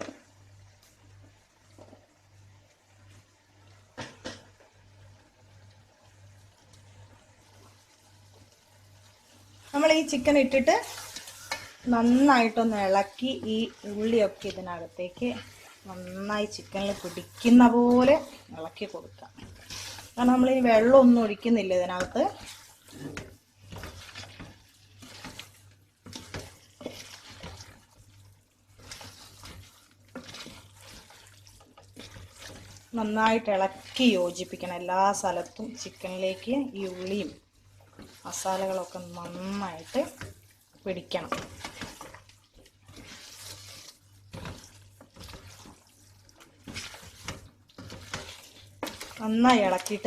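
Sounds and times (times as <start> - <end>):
faint sizzle: 0.0 - 50.0
spoon scraping a pan: 9.5 - 50.0.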